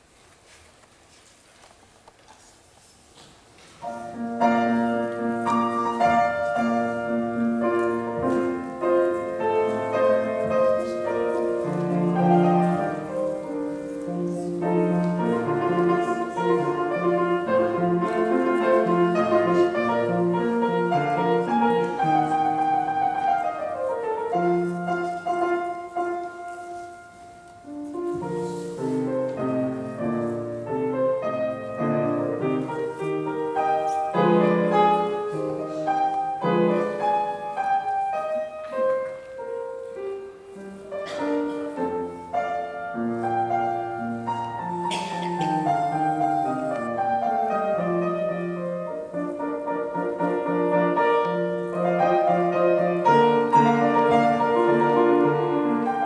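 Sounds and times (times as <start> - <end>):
bassoon and piano classical music: 3.7 - 56.0.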